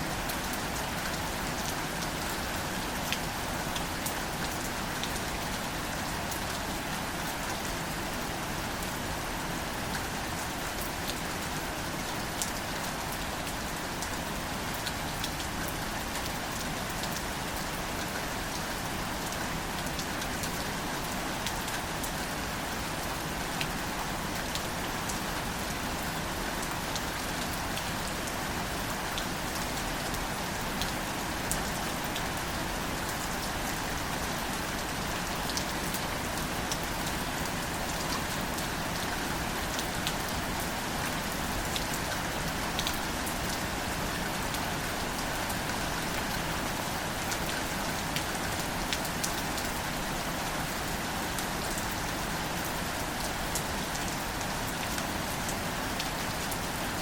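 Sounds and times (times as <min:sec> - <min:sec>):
light rain on plants: 0:00.0 - 0:57.0.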